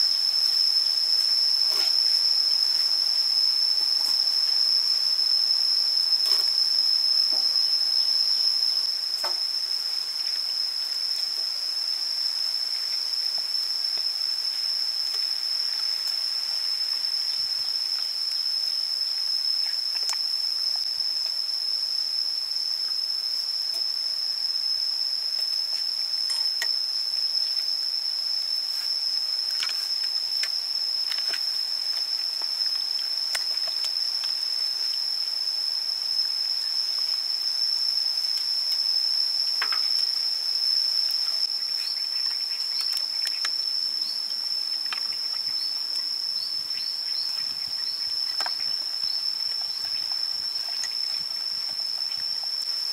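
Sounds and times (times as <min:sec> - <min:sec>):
steady high-pitched whine: 0:00.0 - 0:52.9.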